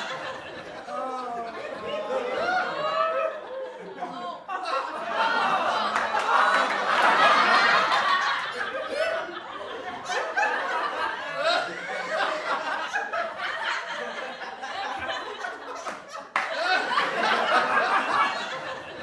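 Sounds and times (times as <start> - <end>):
people laughing: 0.0 - 19.0.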